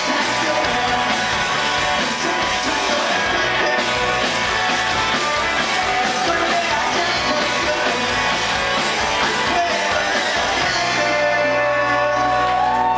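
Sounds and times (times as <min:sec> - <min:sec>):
person singing: 0:00.0 - 0:04.3, 0:05.6 - 0:12.9
bass guitar: 0:00.0 - 0:12.9
drums: 0:00.0 - 0:12.9
electric guitars: 0:00.0 - 0:12.9.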